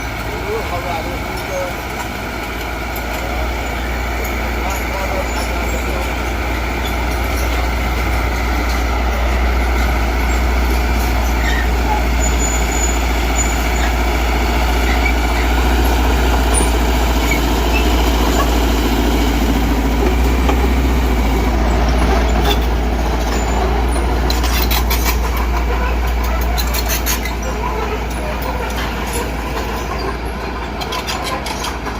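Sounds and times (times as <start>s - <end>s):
heavy diesel engine running: 0.0s - 31.9s.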